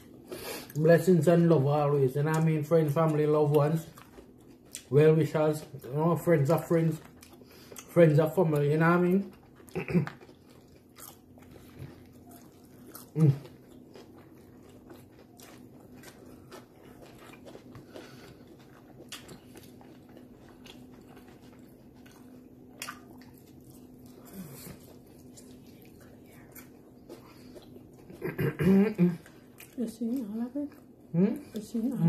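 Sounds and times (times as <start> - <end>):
faint steady hum: 0.0 - 32.0
person chewing food crunching: 0.0 - 32.0.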